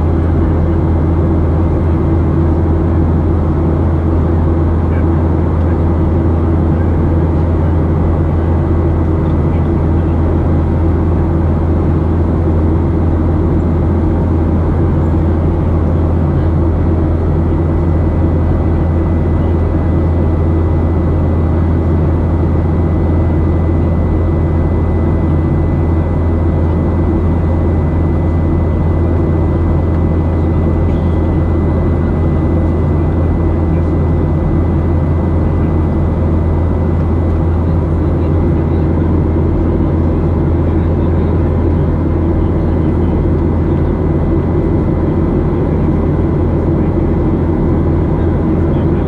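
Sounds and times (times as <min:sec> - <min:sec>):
airplane cabin engine noise: 0:00.0 - 0:49.0.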